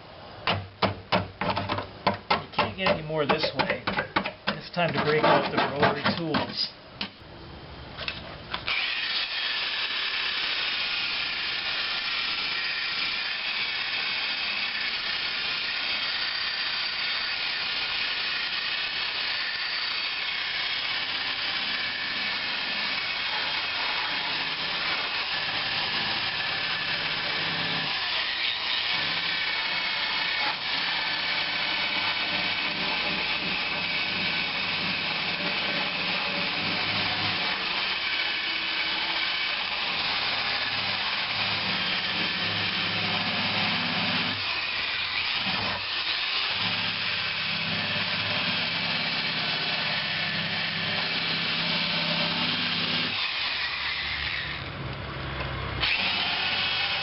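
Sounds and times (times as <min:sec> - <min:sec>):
drill wire brush on metal: 0:02.6 - 0:06.7, 0:08.7 - 0:54.7.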